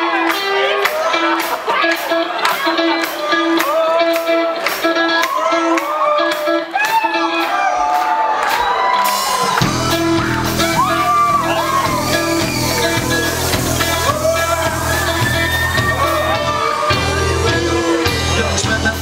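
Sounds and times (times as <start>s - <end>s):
crowd shouting and whooping: 0.0s - 19.0s
live band playing: 0.0s - 19.0s.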